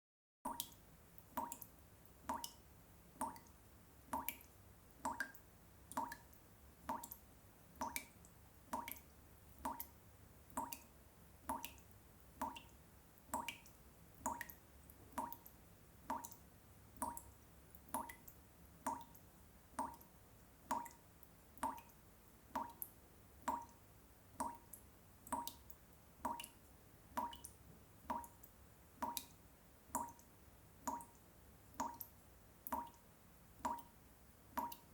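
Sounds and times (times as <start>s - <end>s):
water drops plinking into water: 0.5s - 2.6s, 3.2s - 7.2s, 7.8s - 16.4s, 17.0s - 19.2s, 19.8s - 20.1s, 20.7s - 21.0s, 21.6s - 23.8s, 24.4s - 33.0s, 33.6s - 33.9s, 34.5s - 34.9s.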